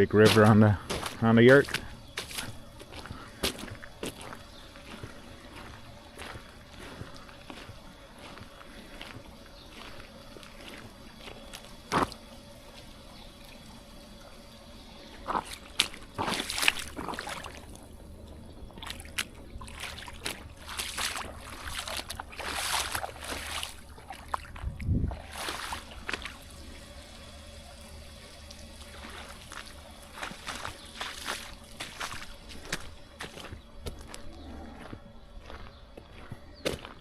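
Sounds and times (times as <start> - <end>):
water trickling: 0.8 - 34.2.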